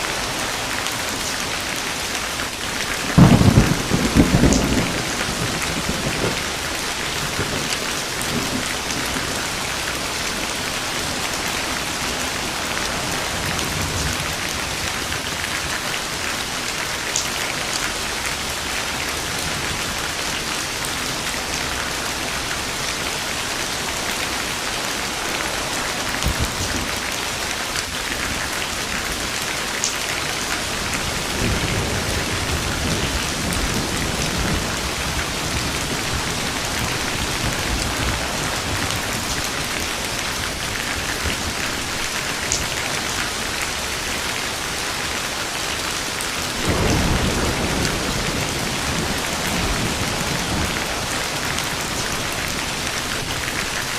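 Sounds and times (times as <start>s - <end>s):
thunder rumbling: 0.0s - 43.3s, 46.2s - 53.9s
rain falling on a surface: 0.0s - 53.9s.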